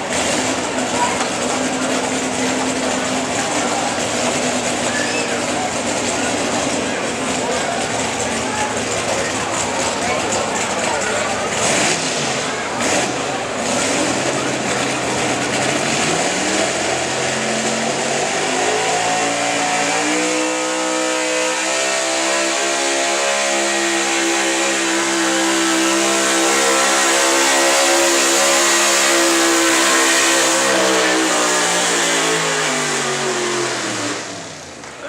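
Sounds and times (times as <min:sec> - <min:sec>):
truck engine under full load: 0:00.0 - 0:35.0.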